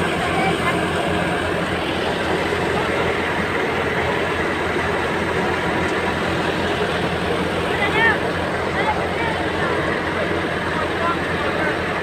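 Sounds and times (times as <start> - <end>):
tractor engine and threshing machine: 0.0 - 12.0.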